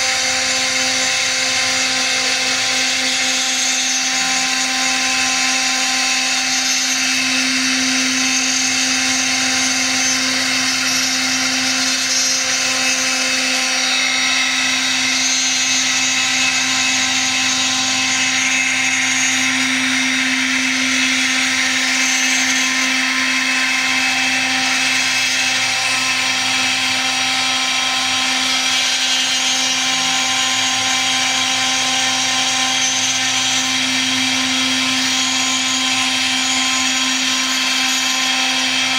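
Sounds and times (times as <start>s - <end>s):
cutter hissing through material: 0.0s - 38.9s
milling spindle whine: 0.0s - 38.9s.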